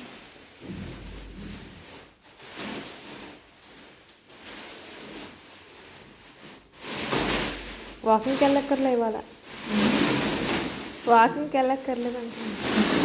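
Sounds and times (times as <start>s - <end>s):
mattress packaging rustling: 0.2s - 13.0s.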